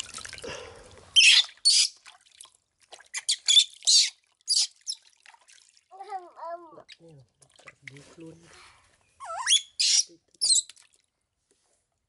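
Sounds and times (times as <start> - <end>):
water splashing in a tub: 0.0 - 8.6, 10.2 - 11.4.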